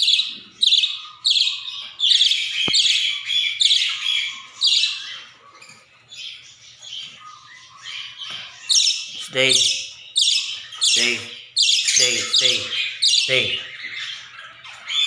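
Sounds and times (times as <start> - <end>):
budgerigar chirping and squawking: 0.0 - 15.0.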